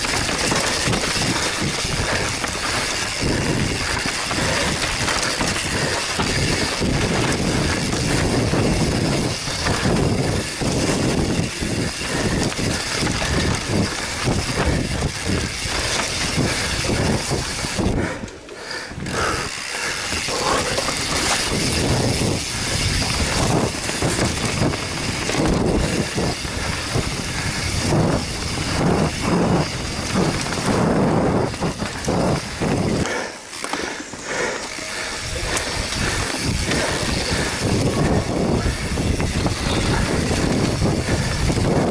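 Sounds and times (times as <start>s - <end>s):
wind rushing over microphone: 0.0s - 18.3s, 18.9s - 33.3s, 34.8s - 41.9s
bike knocking and rattling: 0.0s - 41.9s
tyres on dirt: 0.0s - 41.9s.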